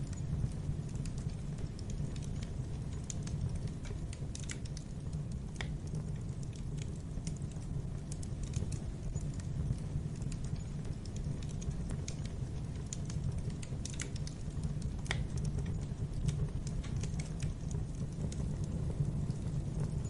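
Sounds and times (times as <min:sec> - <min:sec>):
low rumble of flames: 0:00.0 - 0:20.0
wood fire pops and snaps: 0:00.0 - 0:20.0.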